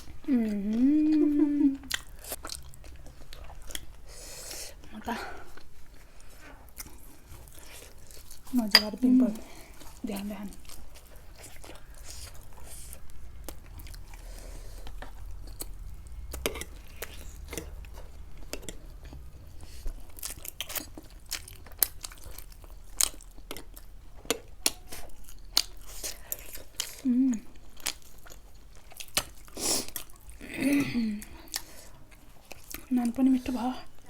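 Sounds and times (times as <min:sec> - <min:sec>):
chewing and crunching: 0:00.0 - 0:34.0.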